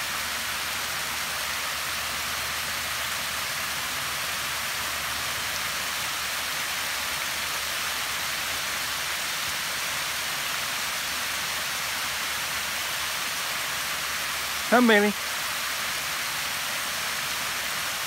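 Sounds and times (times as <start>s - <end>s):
stream rushing over rock: 0.0s - 18.0s.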